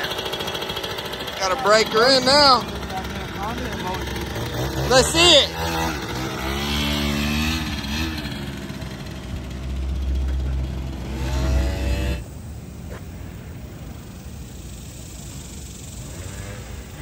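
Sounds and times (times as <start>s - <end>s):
two-stroke engine revving: 0.0s - 13.1s, 13.7s - 17.0s.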